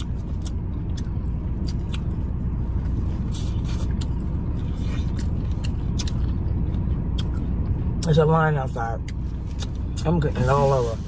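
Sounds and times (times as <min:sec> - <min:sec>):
chewing and mouth smacks: 0:00.0 - 0:08.2, 0:09.0 - 0:10.1.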